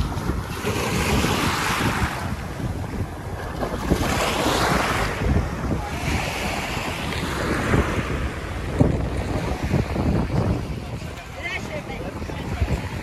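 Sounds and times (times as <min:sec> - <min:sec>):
small waves washing on shell beach: 0:00.0 - 0:13.0
wind buffeting microphone: 0:00.0 - 0:13.0.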